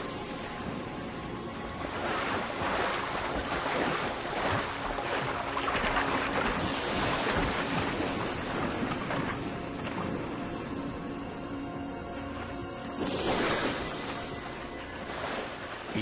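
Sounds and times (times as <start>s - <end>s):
heavy splashing water: 0.0s - 11.3s, 12.0s - 16.0s.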